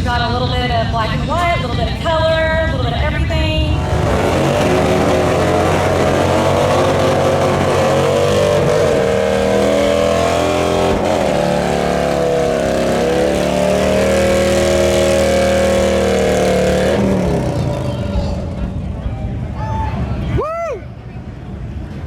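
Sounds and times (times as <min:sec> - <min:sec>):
motorcycle engines revving: 0:01.1 - 0:19.5.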